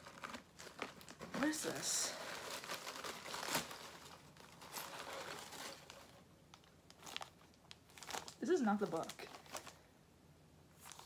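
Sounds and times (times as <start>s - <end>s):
packaging crinkling and rustling: 0.0s - 9.8s, 10.8s - 11.0s.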